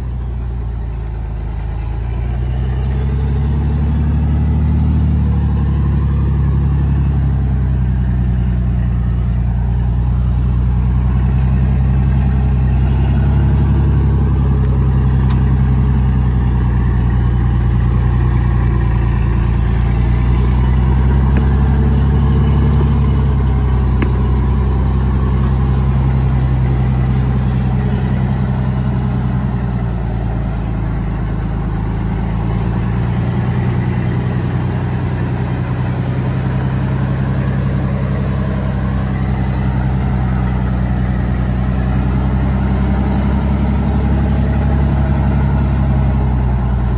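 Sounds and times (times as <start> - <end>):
truck engine running loudly: 0.0 - 46.9.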